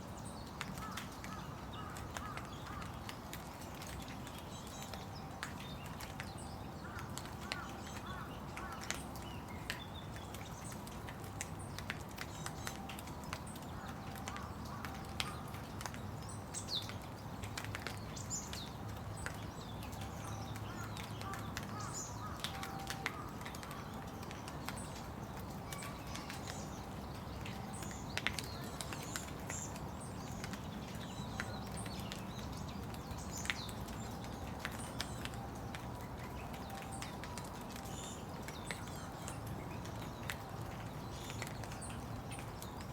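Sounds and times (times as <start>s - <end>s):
steady rain: 0.0s - 42.9s
small birds chirping: 0.1s - 42.9s.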